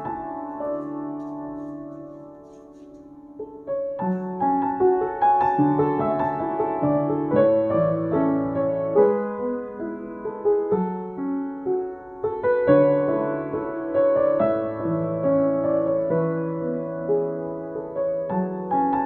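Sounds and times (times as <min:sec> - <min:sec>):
piano playing: 0:00.0 - 0:19.0.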